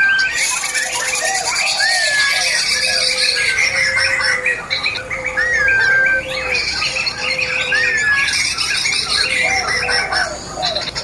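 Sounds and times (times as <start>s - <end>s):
bird chattering song: 0.0s - 11.0s
whistled bird notes: 0.0s - 11.0s.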